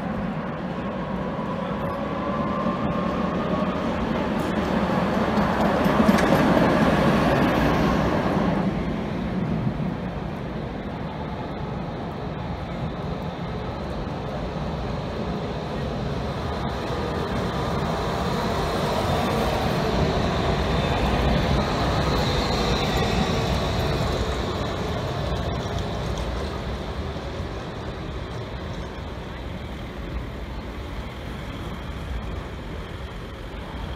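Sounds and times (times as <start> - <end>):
tram passing on rails: 0.0 - 33.9.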